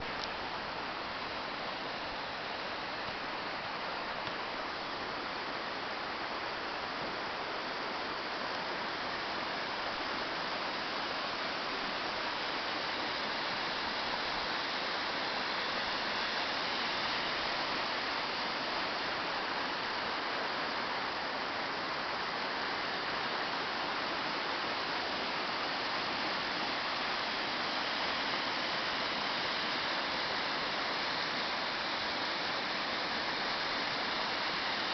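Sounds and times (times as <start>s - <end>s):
creek water rushing: 0.0s - 34.9s.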